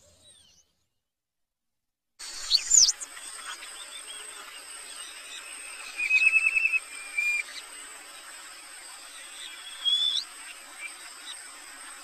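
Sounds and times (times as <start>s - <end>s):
birdsong trills and whistles: 0.0s - 0.8s, 2.2s - 12.0s
high-pitched insect hiss: 2.2s - 12.0s.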